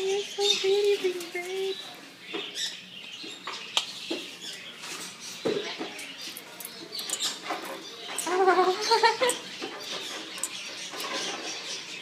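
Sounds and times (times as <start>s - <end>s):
bird chirping and squeaking: 2.2s - 12.0s.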